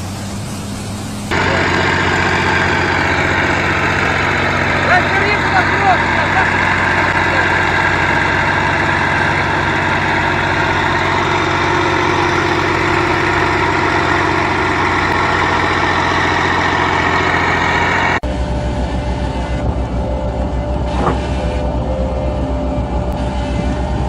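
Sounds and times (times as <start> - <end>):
engine with fast low pulsing: 0.0 - 24.0
large engine running: 0.0 - 24.0.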